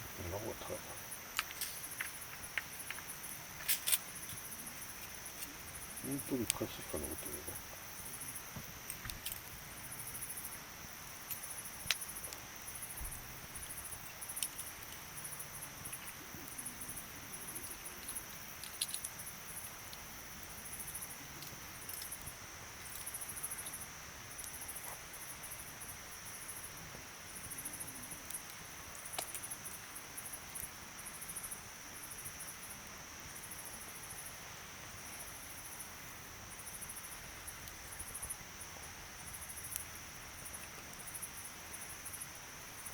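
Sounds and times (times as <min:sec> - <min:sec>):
campfire popping: 0:00.0 - 0:42.9
insects trilling: 0:00.0 - 0:42.9.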